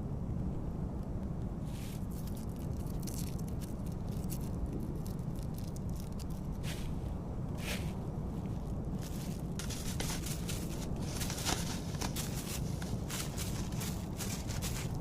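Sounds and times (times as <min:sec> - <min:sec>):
wind rumble on microphone: 0:00.0 - 0:15.0
scratchy rustles: 0:01.7 - 0:15.0.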